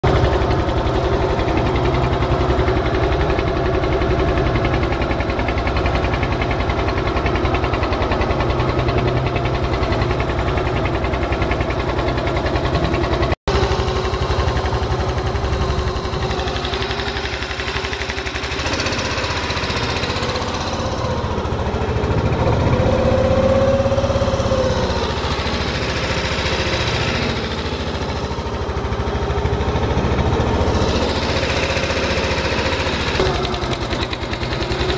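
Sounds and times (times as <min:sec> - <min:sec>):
boat motor running: 0:00.0 - 0:34.9.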